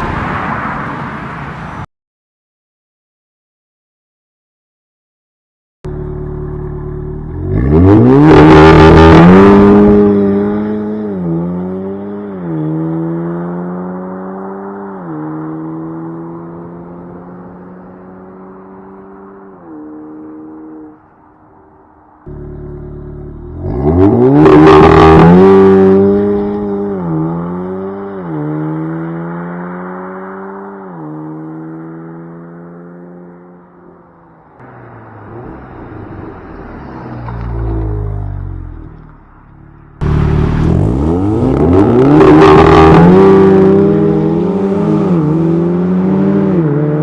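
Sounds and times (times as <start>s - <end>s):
car engine revving: 5.9s - 21.1s, 22.3s - 47.0s
exhaust rush: 5.9s - 47.0s.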